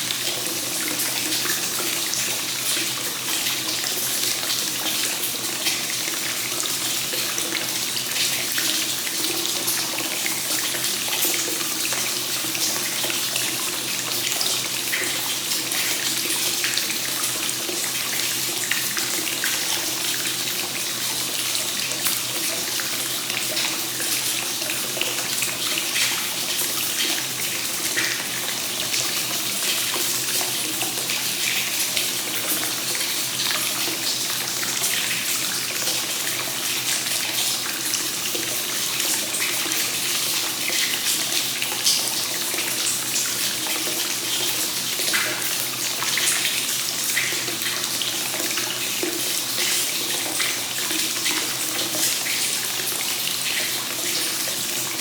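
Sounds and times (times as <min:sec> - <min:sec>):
water pouring into a bath: 0:00.0 - 0:55.0.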